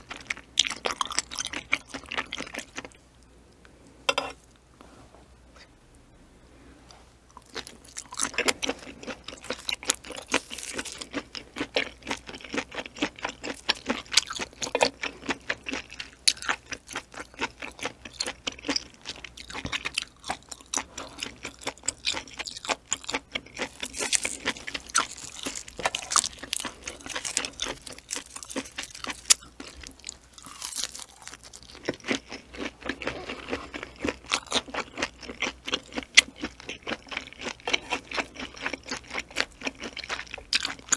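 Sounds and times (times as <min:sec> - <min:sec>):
wet crunchy chewing: 0:07.4 - 0:40.9.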